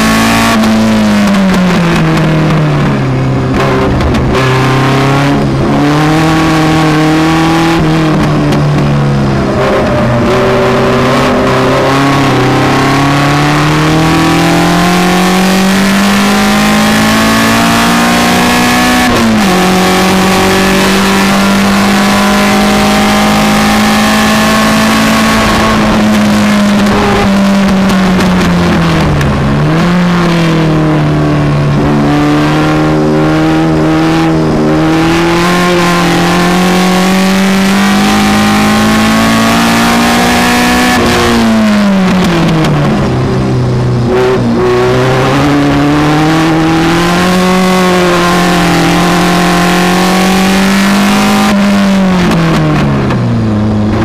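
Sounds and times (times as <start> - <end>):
race car engine revving: 0.0 - 54.0
wind and road rush: 0.0 - 54.0.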